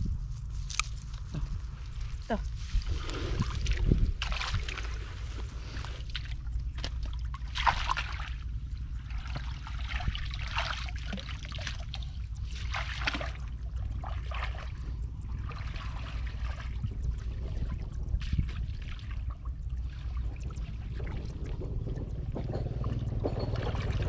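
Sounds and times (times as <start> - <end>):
steady low hum: 0.0 - 24.0
water splashing and trickling: 1.7 - 24.0.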